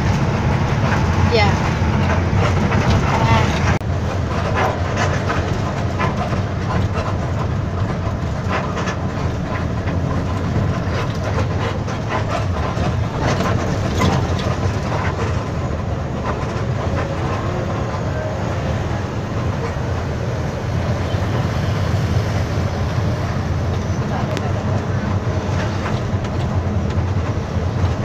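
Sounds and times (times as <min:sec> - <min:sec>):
bus body rattles and knocks: 0:00.0 - 0:28.0
bus engine and road rumble: 0:00.0 - 0:28.0.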